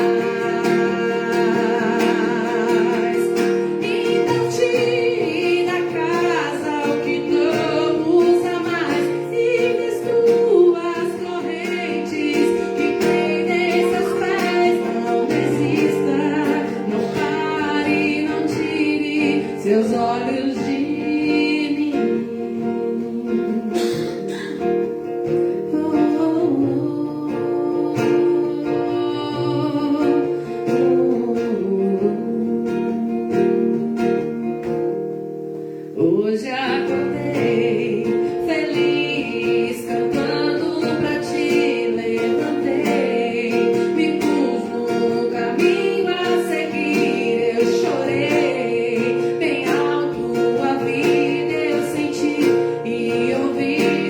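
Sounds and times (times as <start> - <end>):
acoustic guitar: 0.0 - 54.0
person singing: 0.0 - 54.0.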